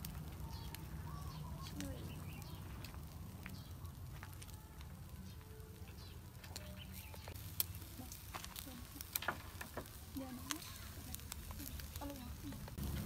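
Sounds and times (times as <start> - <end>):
light sizzling: 0.0 - 13.0.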